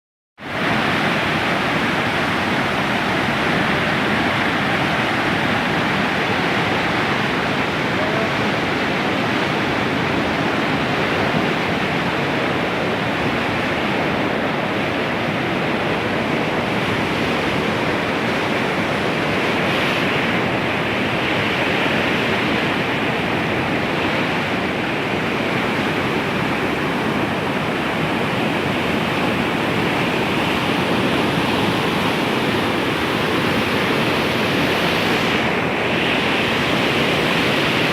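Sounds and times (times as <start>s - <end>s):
river rushing in flood: 0.4s - 37.9s.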